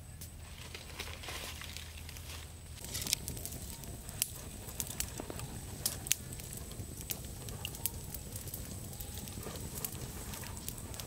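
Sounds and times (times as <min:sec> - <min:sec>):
steady low rumble: 0:00.0 - 0:11.0
wood fire crackling: 0:00.0 - 0:11.0.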